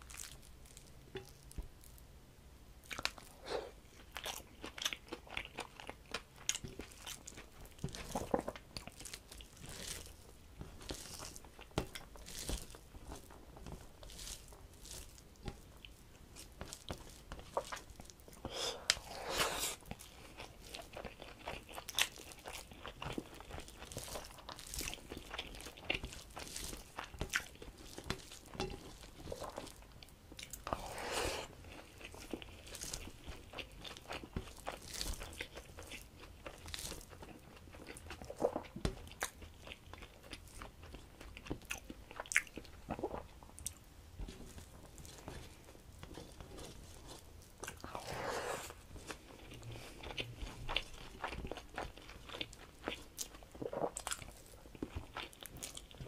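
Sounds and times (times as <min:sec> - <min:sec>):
close chewing: 0:02.8 - 0:56.0.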